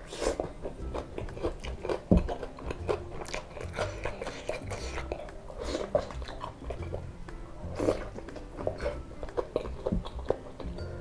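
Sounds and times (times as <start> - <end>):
chewing fried food: 0.0 - 11.0.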